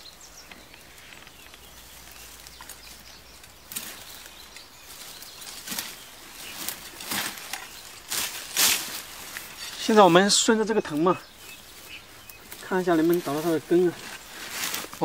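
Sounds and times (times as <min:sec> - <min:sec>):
leaves rustling in undergrowth: 0:00.0 - 0:15.0.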